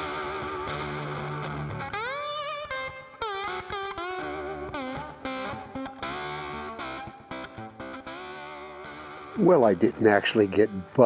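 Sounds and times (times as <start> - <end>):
distorted electric guitar music: 0.0 - 11.0.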